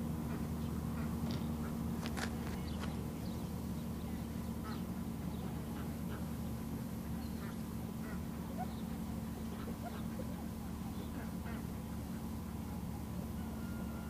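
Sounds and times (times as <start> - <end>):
distant ducks quacking: 0.0 - 14.0
steady low hum: 0.0 - 14.0.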